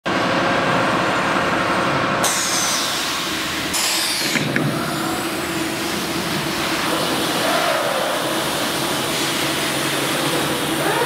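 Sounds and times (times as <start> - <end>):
cnc router machine noise: 0.2 - 11.0.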